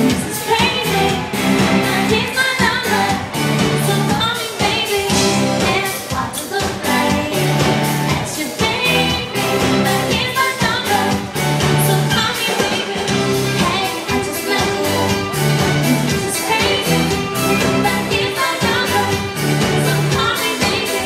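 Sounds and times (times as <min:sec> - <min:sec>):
steady beat and bass line: 0:00.0 - 0:04.2, 0:06.8 - 0:12.2, 0:13.1 - 0:21.0
woman singing: 0:00.0 - 0:21.0.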